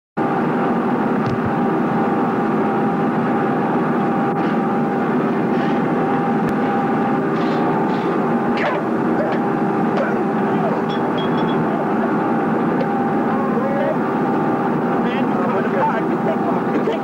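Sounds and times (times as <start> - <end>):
heavy machinery drone: 0.2 - 17.0.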